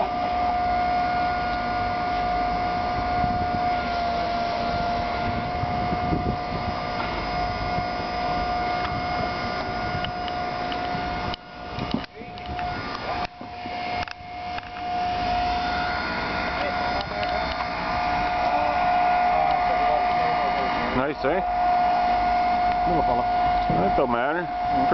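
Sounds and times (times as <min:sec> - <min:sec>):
crane motor whining: 0:00.0 - 0:24.9.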